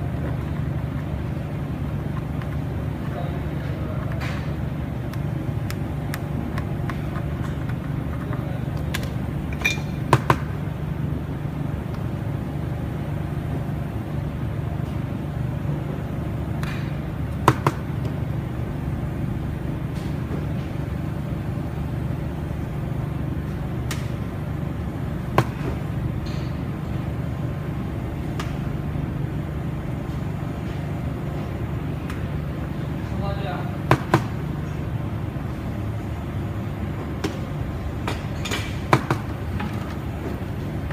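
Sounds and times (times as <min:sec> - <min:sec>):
low workshop hum: 0:00.0 - 0:40.9.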